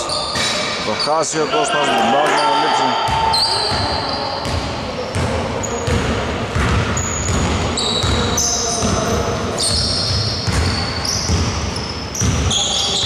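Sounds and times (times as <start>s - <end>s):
shoe squeaks: 0.0s - 1.6s, 2.3s - 6.0s, 7.0s - 13.0s.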